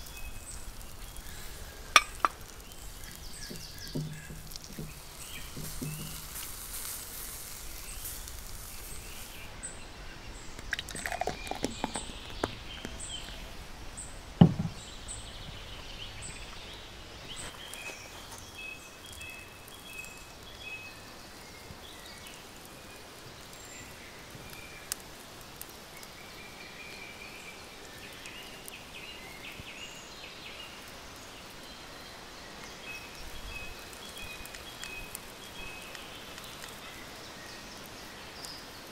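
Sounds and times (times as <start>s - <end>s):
hiss over grill coals: 0.0s - 38.9s
small birds chirping: 0.0s - 38.9s.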